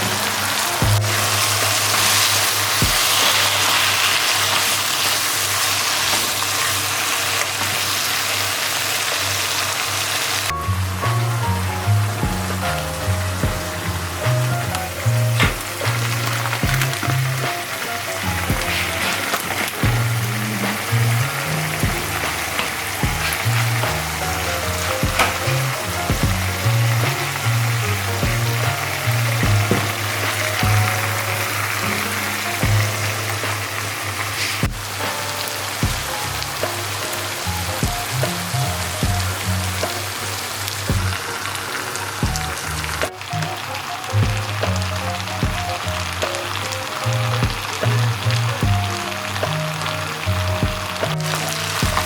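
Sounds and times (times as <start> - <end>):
soft background music: 0.0 - 6.7, 10.4 - 52.0
food sizzling in a frying pan: 0.0 - 52.0
kitchen cooking hiss: 0.0 - 52.0.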